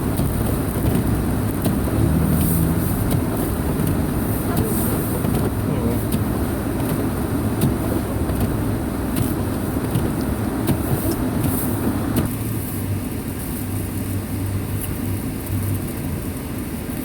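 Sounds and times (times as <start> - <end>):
car engine running: 0.0 - 17.0
road and snow noise: 0.0 - 17.0.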